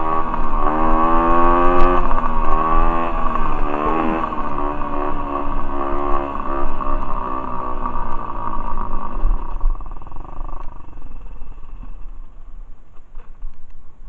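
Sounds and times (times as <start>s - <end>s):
pit bike engine revving: 0.0s - 12.1s.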